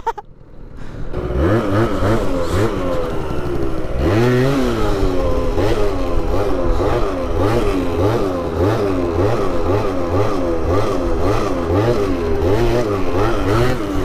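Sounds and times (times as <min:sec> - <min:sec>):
two-stroke scooter engine revving: 0:00.0 - 0:14.0.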